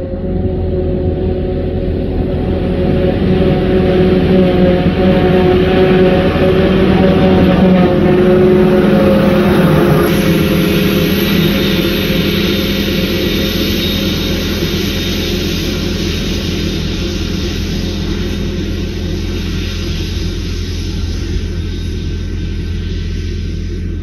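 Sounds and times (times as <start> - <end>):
forage harvester engine drone: 0.0 - 24.0.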